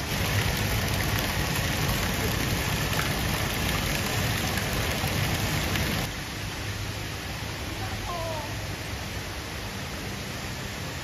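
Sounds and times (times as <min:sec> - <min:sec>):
fountain water splashing into pond: 0:00.0 - 0:11.0.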